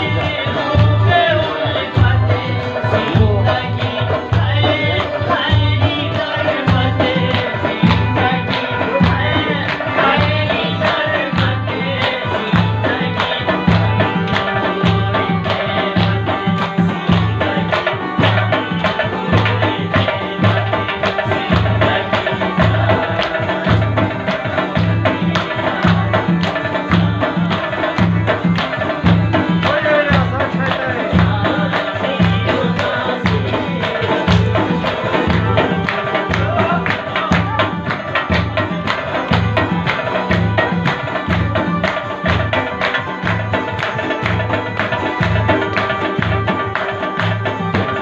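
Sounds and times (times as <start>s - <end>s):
drum beat: 0.0s - 48.0s
hand clapping: 2.8s - 48.0s.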